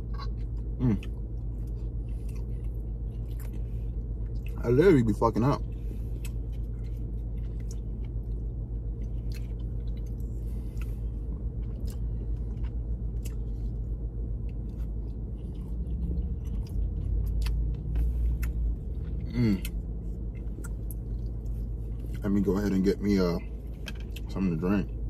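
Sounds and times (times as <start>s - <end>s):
person chewing food: 0.0s - 4.6s, 5.6s - 22.2s.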